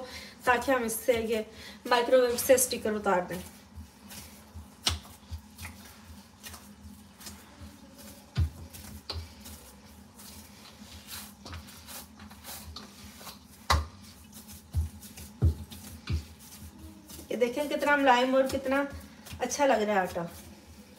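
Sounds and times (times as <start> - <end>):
hands kneading dough: 0.0 - 20.9.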